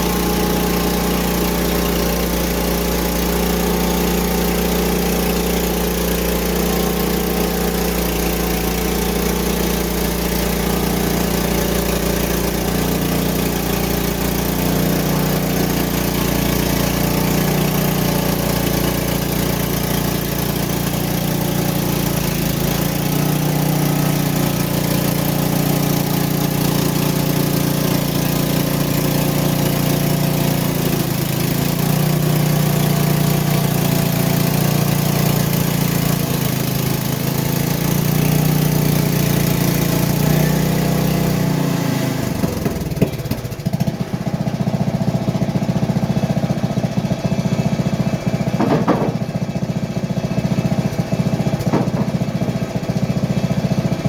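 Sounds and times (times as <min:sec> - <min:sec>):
sawmill gasoline engine running: 0:00.0 - 0:54.0.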